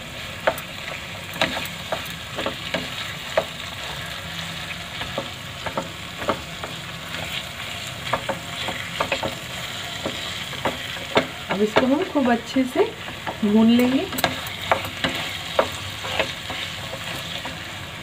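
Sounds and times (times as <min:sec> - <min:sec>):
carrots sizzling in a pan: 0:00.0 - 0:18.0.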